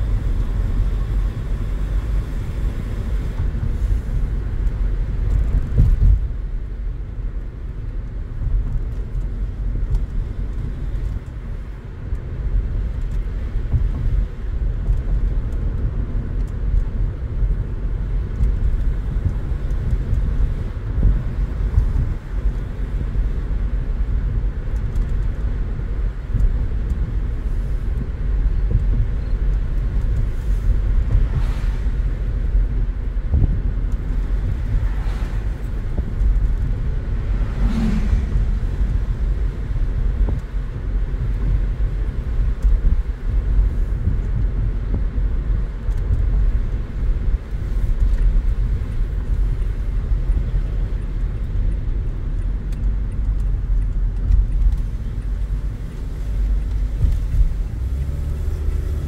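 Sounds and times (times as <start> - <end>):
car cabin road rumble: 0.0 - 59.0
passing traffic whooshes: 8.7 - 59.0.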